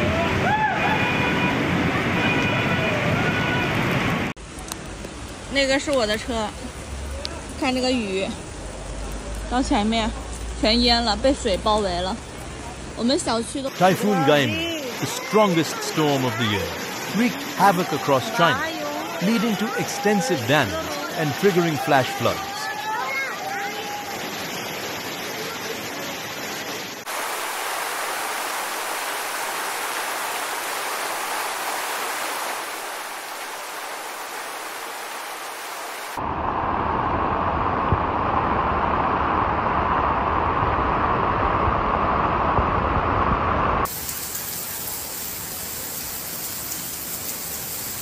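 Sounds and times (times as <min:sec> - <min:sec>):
floodwater rushing: 0:00.0 - 0:48.0
heavy rain: 0:00.0 - 0:48.0.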